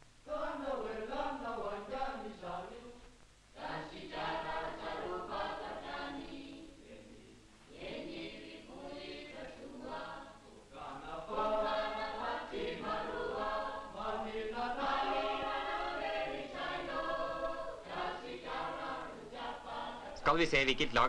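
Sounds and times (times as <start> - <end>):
children's choir singing: 0.3 - 3.0, 3.6 - 20.3.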